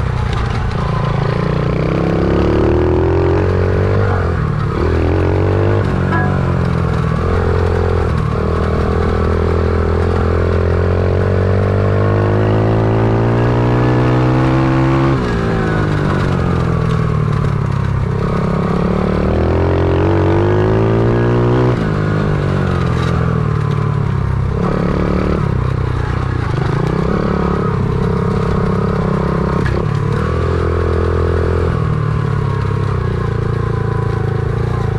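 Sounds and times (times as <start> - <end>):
pit bike engine revving: 1.1 - 34.9.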